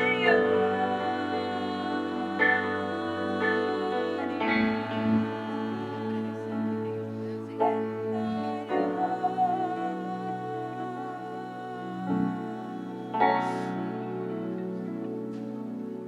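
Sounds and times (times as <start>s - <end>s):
sustained instrumental chords: 0.0s - 16.0s.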